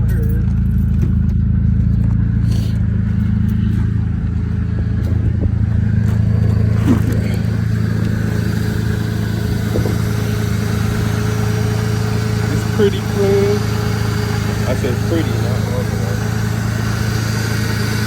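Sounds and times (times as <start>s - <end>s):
car engine idling deep exhaust: 0.0s - 18.0s.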